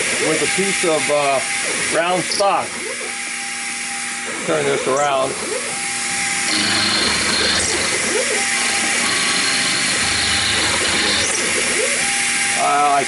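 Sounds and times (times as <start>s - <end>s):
mill spindle cutting metal: 0.0s - 13.0s.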